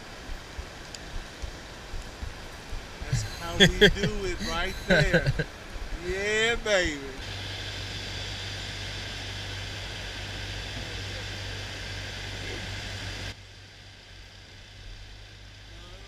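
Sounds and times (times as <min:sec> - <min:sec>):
even hiss: 0:00.0 - 0:16.0
steady low hum: 0:00.0 - 0:16.0.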